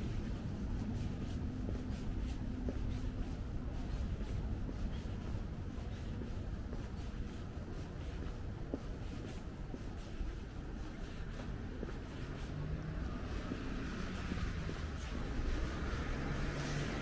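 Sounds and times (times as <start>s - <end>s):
city background hum: 0.0s - 17.0s
footsteps on pavement: 0.0s - 17.0s.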